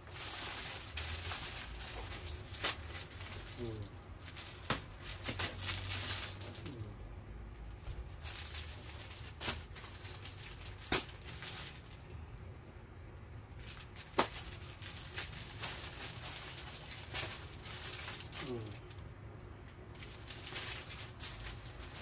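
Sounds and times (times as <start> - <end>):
plastic bags rustling: 0.0 - 6.9, 7.6 - 12.1, 13.5 - 19.1, 19.8 - 22.0.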